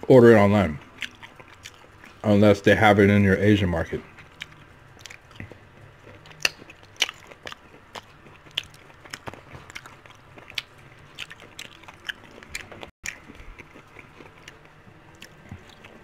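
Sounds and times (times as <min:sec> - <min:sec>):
crunching fried chicken: 0:00.1 - 0:16.0.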